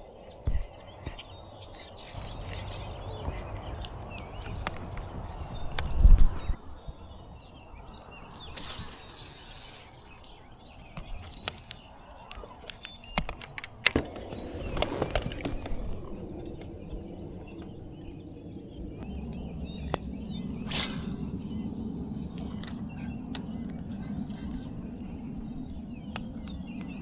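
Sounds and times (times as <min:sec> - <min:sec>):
birds chirping faintly: 0:00.0 - 0:27.0.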